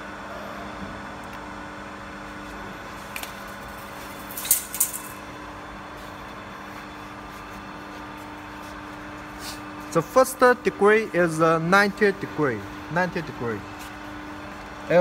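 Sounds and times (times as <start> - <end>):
pipe bending machine humming: 0.0 - 15.0.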